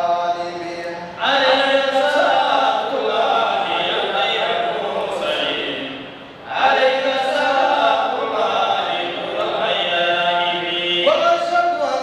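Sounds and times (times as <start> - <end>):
men chanting a devotional poem: 0.0 - 12.0.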